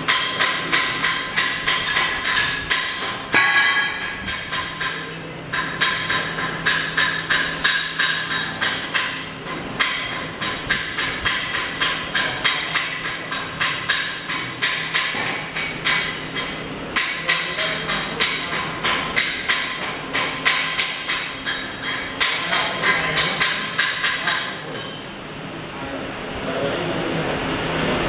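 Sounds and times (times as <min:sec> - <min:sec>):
hammers striking steel: 0:00.0 - 0:25.2.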